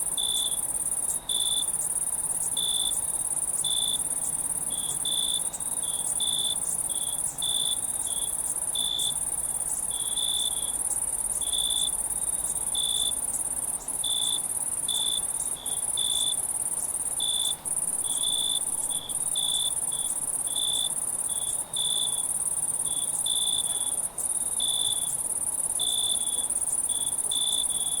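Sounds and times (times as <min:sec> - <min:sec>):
crickets trilling: 0:00.0 - 0:28.0
short lower cricket chirps: 0:00.1 - 0:28.0.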